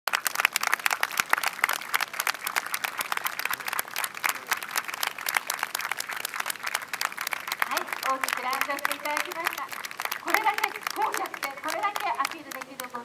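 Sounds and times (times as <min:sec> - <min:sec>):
crowd applauding: 0:00.1 - 0:13.0.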